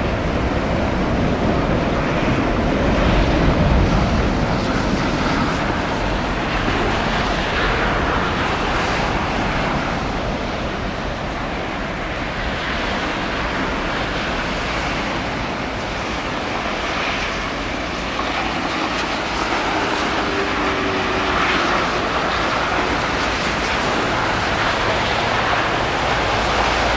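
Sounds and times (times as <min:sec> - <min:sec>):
jet engines rushing: 0:00.0 - 0:26.9
wind on microphone: 0:00.0 - 0:26.9.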